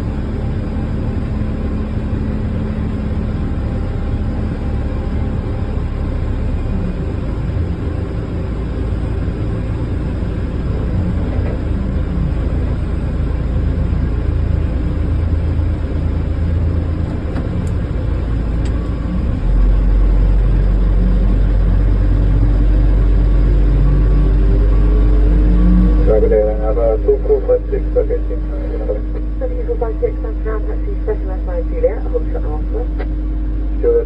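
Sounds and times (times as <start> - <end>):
aircraft engine rumble: 0.0 - 34.0.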